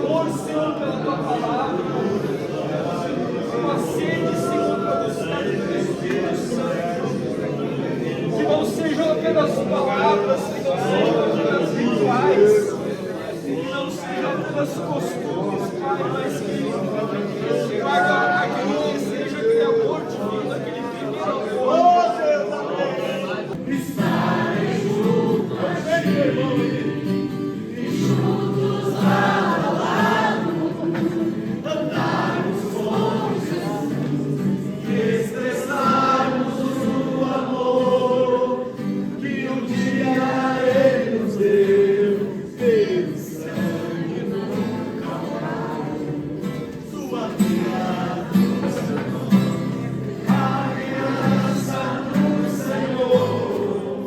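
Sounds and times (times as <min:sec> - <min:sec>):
choir singing worship music: 0:00.0 - 0:21.6, 0:22.8 - 0:54.0.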